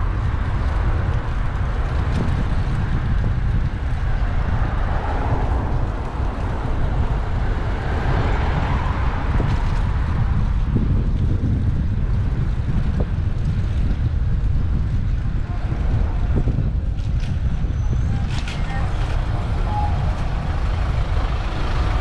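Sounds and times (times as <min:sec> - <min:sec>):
street traffic: 0:00.0 - 0:22.0
wind rumble: 0:00.0 - 0:22.0.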